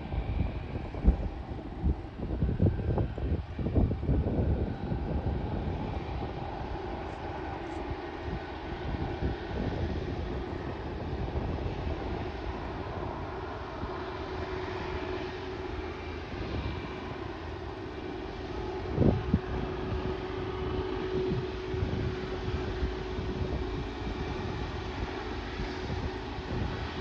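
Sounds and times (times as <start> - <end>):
freight train rumble: 0.0 - 27.0
steady hum: 0.0 - 27.0.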